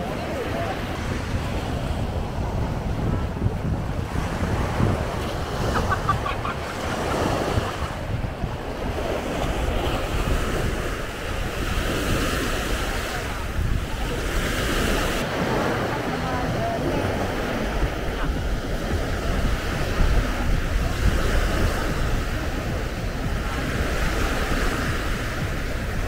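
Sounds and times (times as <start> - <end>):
small waves breaking on sand: 0.0 - 26.0
wind buffeting microphone: 0.0 - 26.0.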